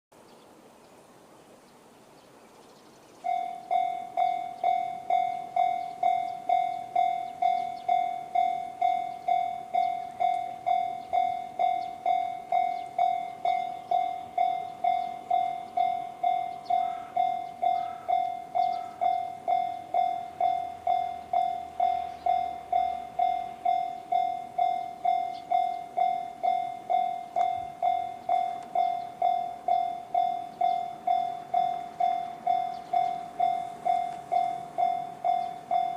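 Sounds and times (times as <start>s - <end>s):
level crossing bell dinging: 3.3s - 35.9s.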